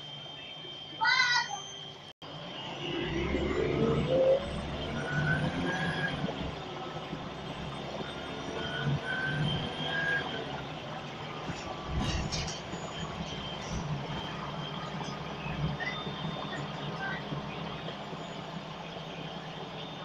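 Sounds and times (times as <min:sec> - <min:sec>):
bus engine low rumble: 0:00.0 - 0:20.0.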